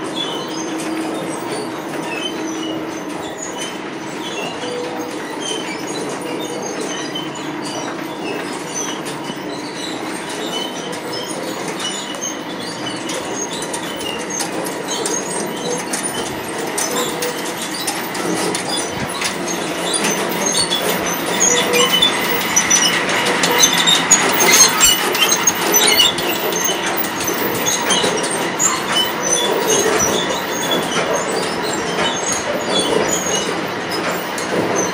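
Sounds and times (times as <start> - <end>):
high squeals: 0.0 - 34.1
chain conveyor rattling: 0.0 - 34.9.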